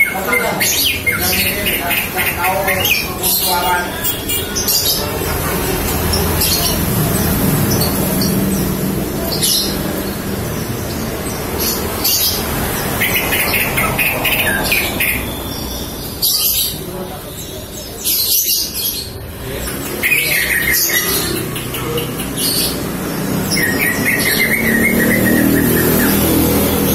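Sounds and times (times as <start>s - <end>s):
bird chirping: 0.0s - 26.9s.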